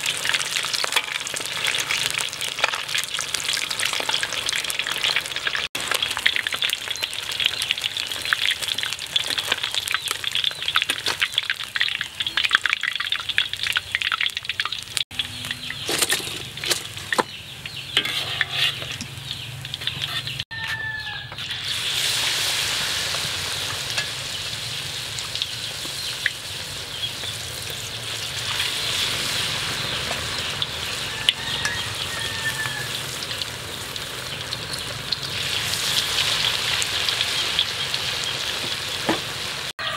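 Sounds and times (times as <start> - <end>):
battered pieces sizzling in oil: 0.0 - 39.9.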